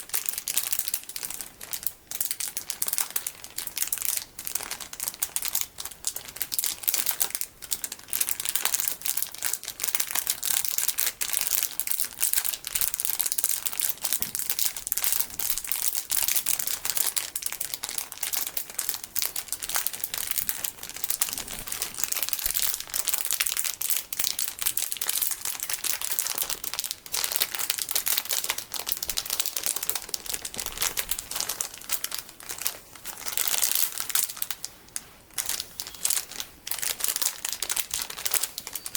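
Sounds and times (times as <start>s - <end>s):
plastic packaging crinkling: 0.0s - 38.9s.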